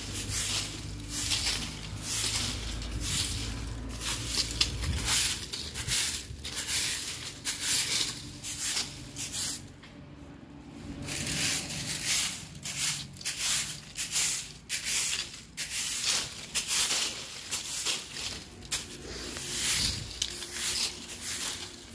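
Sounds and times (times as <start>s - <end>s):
stick broom sweeping ground: 0.0s - 10.0s, 10.6s - 21.9s.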